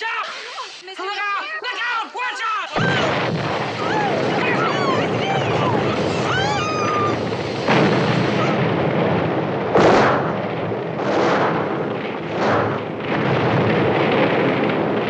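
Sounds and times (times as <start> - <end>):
fire burning rush: 0.0 - 0.9, 2.6 - 15.0
heavy explosion blasts: 2.8 - 15.0.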